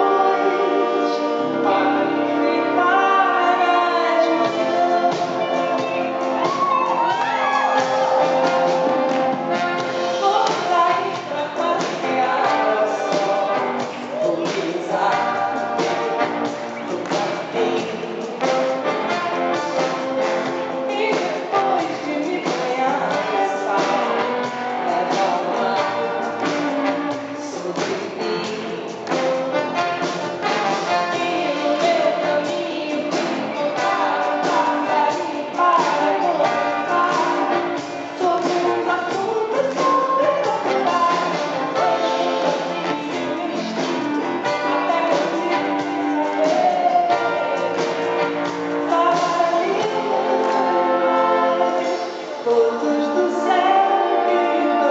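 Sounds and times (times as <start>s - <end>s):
live band playing: 0.0s - 54.9s
woman singing: 0.0s - 54.9s.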